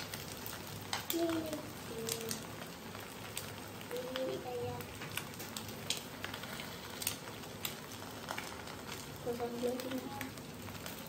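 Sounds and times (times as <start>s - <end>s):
egg sizzling in hot oil: 0.0s - 11.0s.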